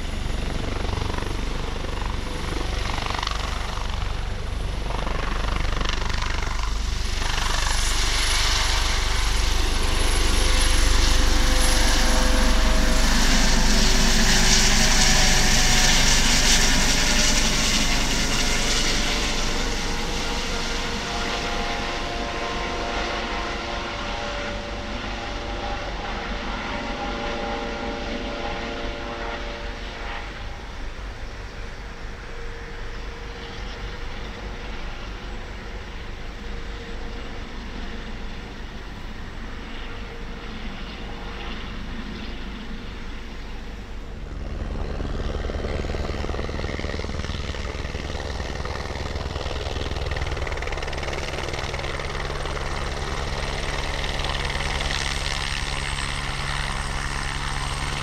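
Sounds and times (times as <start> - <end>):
helicopter rotor noise with whine: 0.0 - 58.0.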